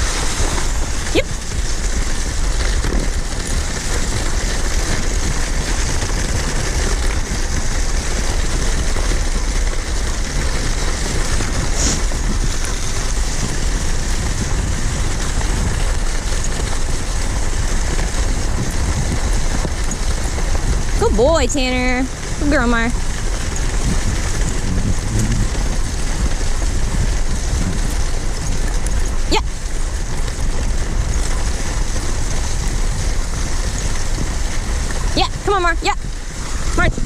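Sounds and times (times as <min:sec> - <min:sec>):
sled runners sliding over snow: 0:00.0 - 0:37.0
wind buffeting microphone: 0:00.0 - 0:37.0.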